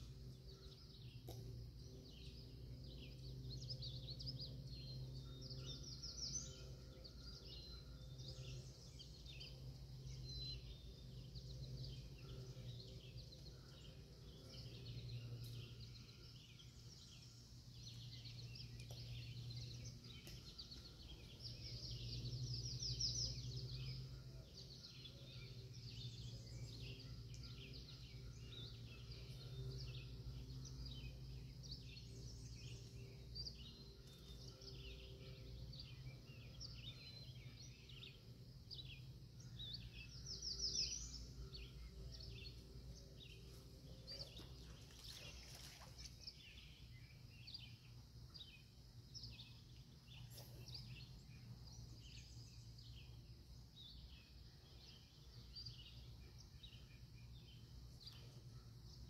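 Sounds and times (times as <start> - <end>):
faint low hum: 0.0 - 59.0
songbirds chirping and trilling: 0.0 - 59.0.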